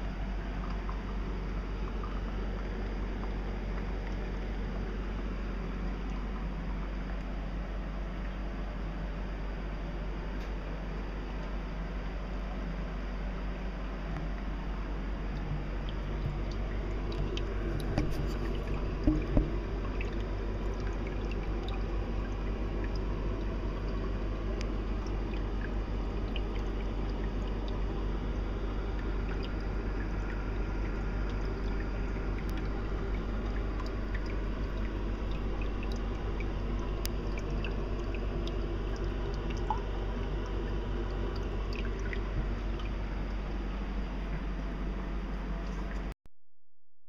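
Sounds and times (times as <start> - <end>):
faint water drips: 0.0 - 8.6, 13.5 - 46.1
aquarium water trickling: 0.0 - 46.1
low electrical hum: 0.0 - 46.2.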